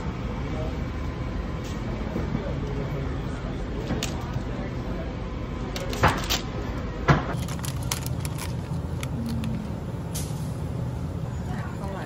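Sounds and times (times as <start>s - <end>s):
store low hum: 0.0s - 12.0s.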